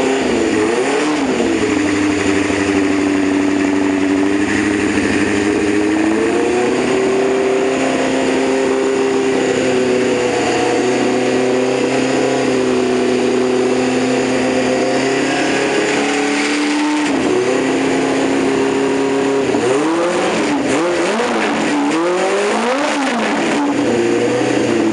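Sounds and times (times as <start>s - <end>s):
engine running and revving: 0.0s - 24.9s.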